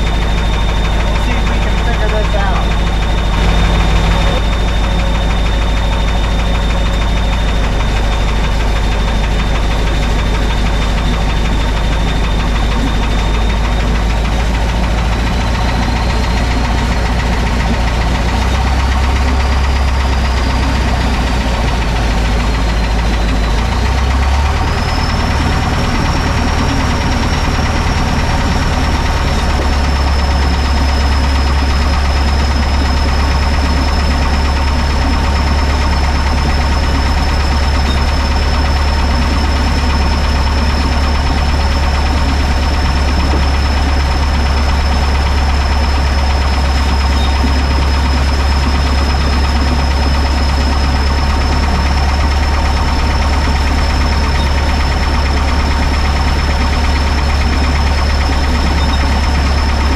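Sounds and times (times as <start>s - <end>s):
snowcat engine running: 0.0s - 59.9s.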